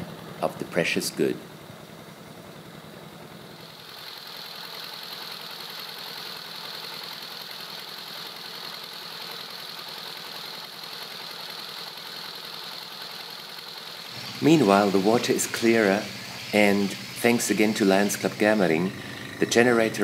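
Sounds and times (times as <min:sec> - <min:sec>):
stationary engine running: 0:01.2 - 0:20.0.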